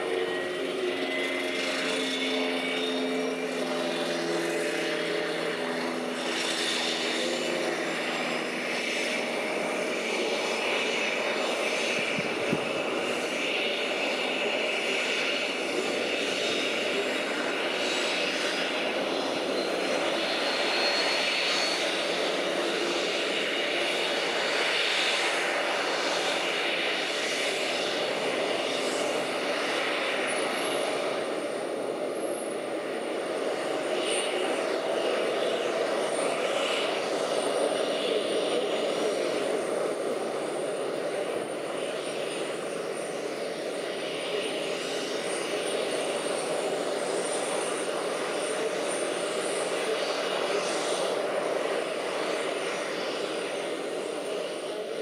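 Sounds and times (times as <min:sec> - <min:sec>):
jet engine whine spooling up: 0:00.0 - 0:55.0.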